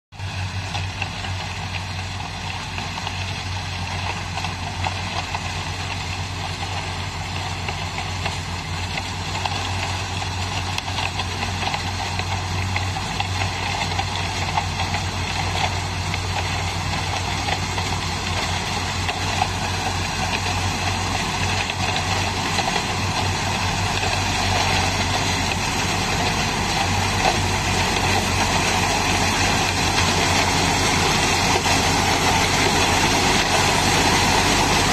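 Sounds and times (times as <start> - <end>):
combine harvester running: 0.1 - 34.9
truck engine running: 0.1 - 34.9.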